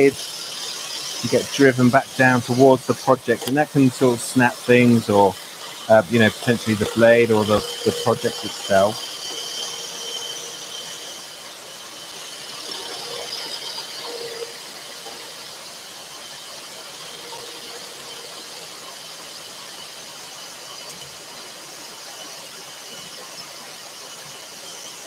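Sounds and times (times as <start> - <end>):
scroll saw cutting wood: 0.0 - 21.6.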